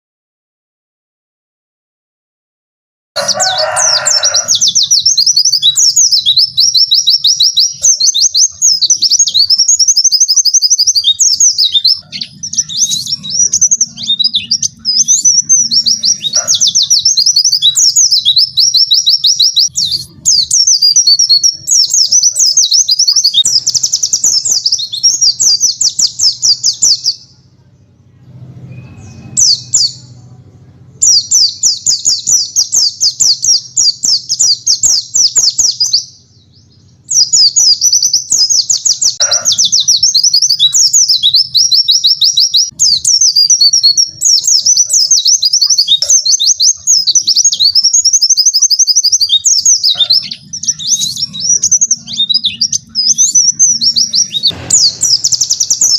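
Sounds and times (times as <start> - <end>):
bird singing fast trills: 3.2 - 27.6, 28.7 - 30.2, 31.0 - 55.9.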